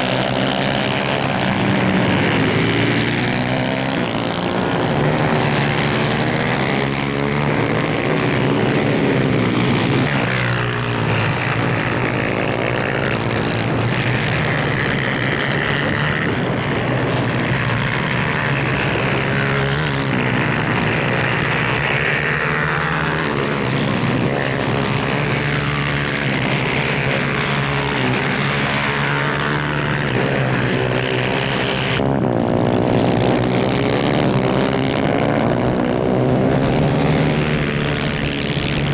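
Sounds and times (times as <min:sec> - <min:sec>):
kart engines revving: 0:00.0 - 0:38.9.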